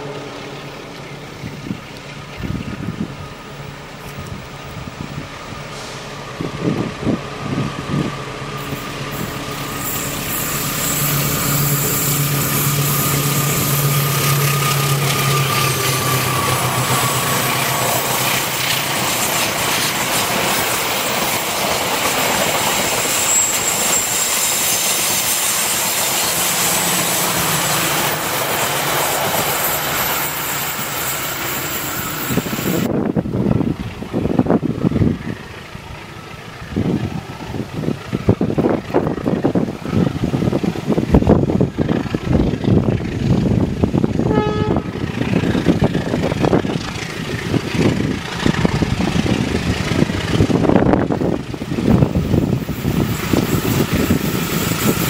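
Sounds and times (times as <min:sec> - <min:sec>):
train engine hum: 0:00.0 - 0:55.0
train wheels on rails: 0:00.0 - 0:55.0.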